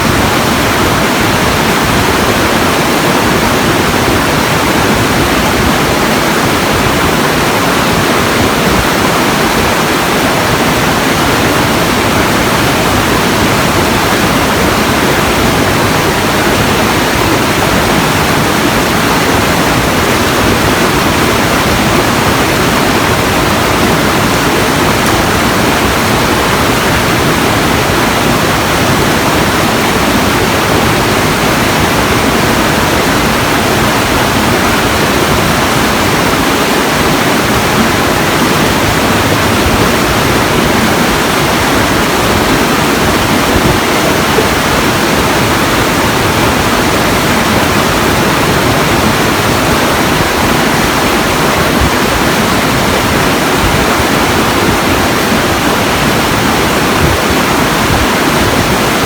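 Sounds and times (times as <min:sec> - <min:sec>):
rushing falling water: 0:00.0 - 0:59.0.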